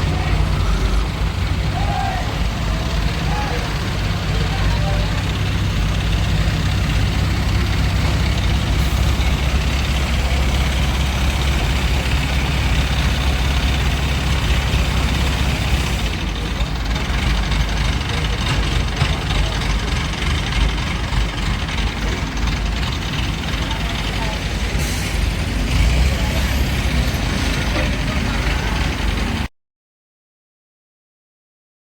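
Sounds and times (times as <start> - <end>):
heavy diesel engine running: 0.0 - 29.5.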